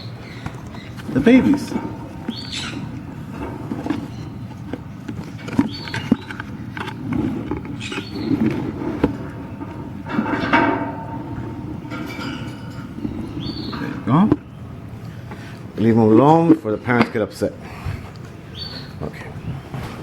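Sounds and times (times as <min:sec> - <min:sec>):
parrots chirping and squawking: 0:00.0 - 0:16.0, 0:17.6 - 0:19.6.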